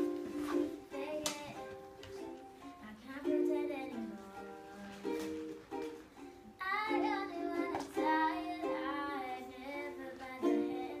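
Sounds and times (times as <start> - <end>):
girl singing: 0.0 - 11.0
ukulele strumming chords: 0.0 - 11.0.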